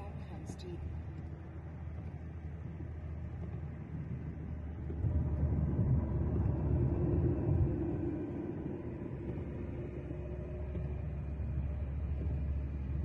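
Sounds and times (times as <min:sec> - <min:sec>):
vehicle road and engine rumble: 0:00.0 - 0:13.0.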